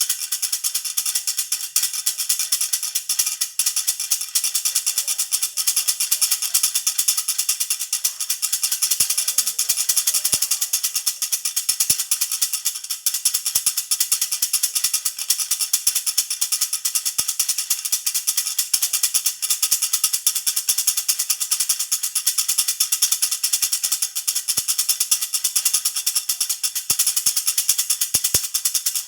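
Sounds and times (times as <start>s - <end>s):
baby rattle jingling: 0.0s - 29.0s.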